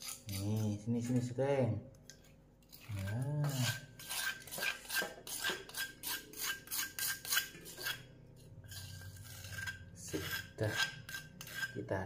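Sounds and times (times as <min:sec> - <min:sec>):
metal spoon scraping stone mortar: 0:00.0 - 0:01.2, 0:02.6 - 0:11.9.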